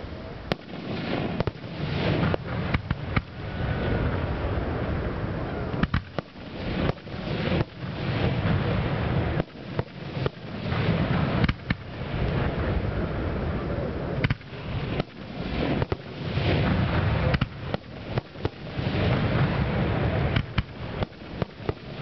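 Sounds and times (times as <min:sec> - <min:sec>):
continuous noisy rumble: 0:00.0 - 0:22.0
fireworks bursting: 0:00.0 - 0:22.0.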